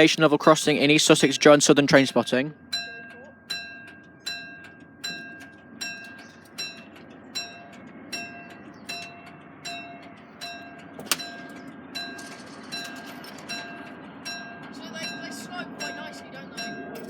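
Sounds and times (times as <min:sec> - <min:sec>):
level crossing alarm ringing: 0:00.0 - 0:17.0.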